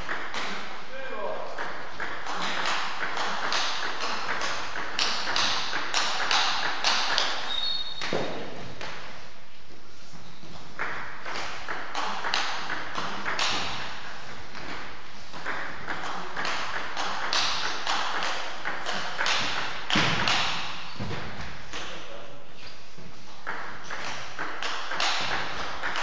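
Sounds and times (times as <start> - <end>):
table tennis ball knocking: 1.6 - 9.1, 10.8 - 21.9, 23.4 - 26.0.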